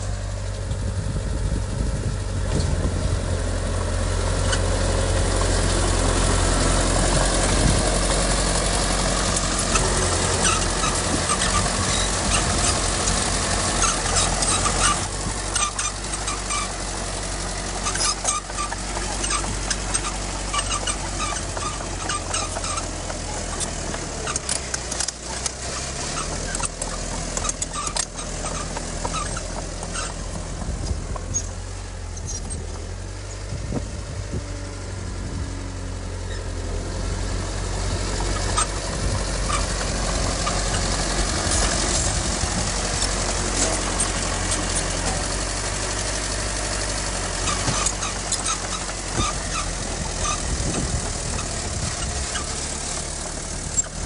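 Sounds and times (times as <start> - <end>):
diesel engine droning: 0.0 - 54.0
sharp clicks and knocks: 5.4 - 33.5, 38.0 - 54.0.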